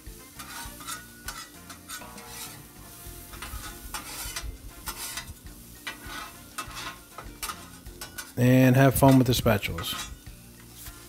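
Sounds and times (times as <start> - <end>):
metal spatulas scraping griddle: 0.0 - 11.0
onions sizzling: 0.0 - 11.0.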